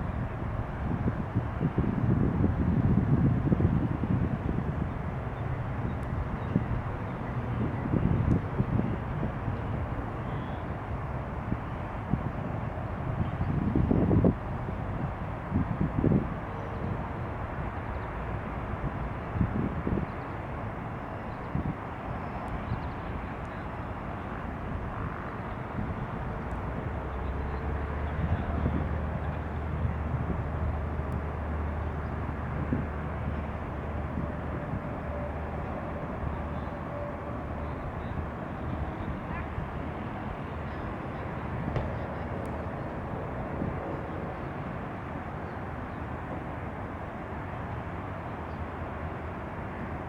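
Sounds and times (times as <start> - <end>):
jet engines: 0.0 - 50.0.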